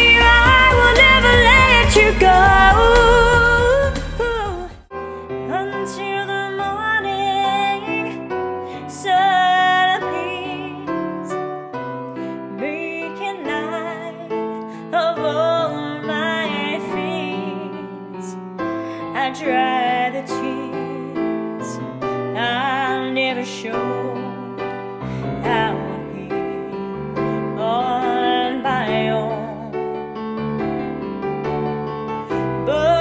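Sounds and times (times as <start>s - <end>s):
woman singing with vibrato: 0.0s - 11.0s, 12.5s - 18.3s, 19.1s - 29.9s, 32.4s - 33.0s
piano accompaniment: 0.0s - 33.0s.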